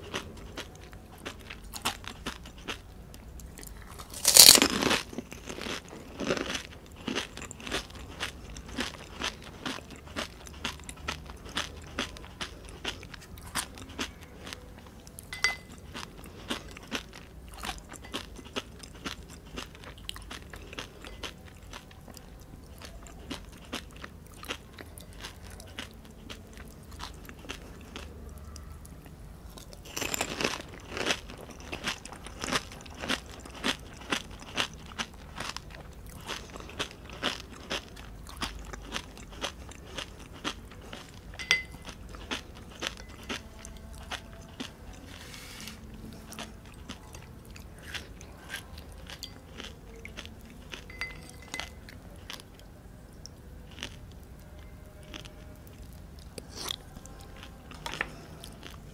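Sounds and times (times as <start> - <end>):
crunchy chewing: 0.0 - 58.9.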